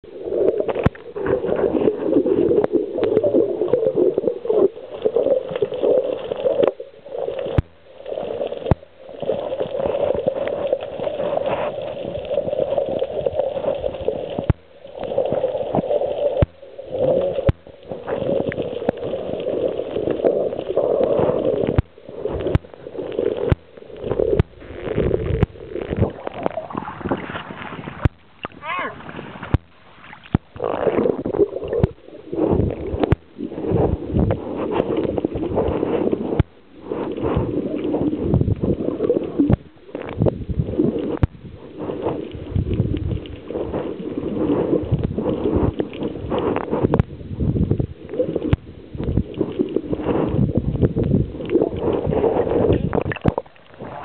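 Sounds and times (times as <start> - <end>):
muffled underwater rushing water: 0.0 - 54.0.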